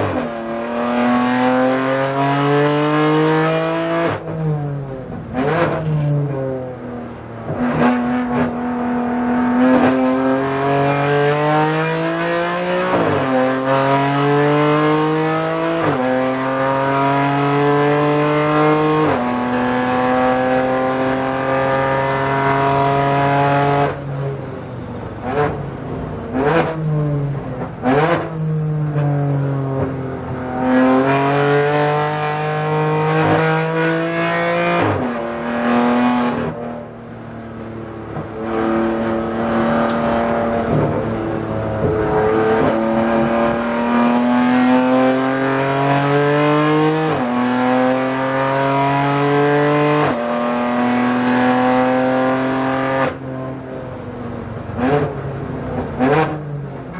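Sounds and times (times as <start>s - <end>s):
race car engine accelerating: 0.0s - 6.6s, 7.4s - 24.0s, 26.3s - 53.2s.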